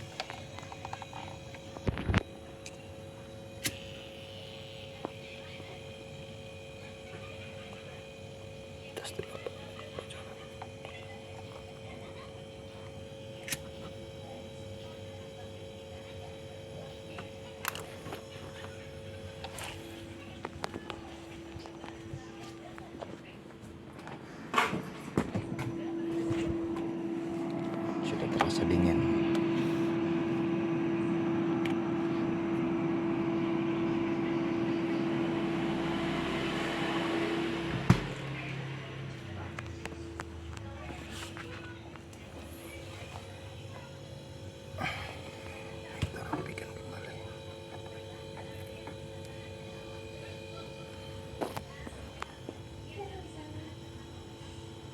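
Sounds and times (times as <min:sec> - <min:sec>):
refrigerator compressor humming: 0:00.0 - 0:54.9.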